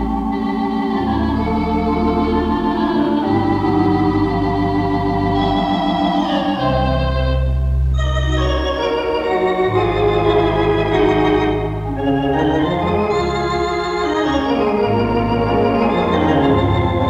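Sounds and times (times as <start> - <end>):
organ pedal bass notes: 0.0 - 17.0
theatre organ chords: 0.0 - 17.0.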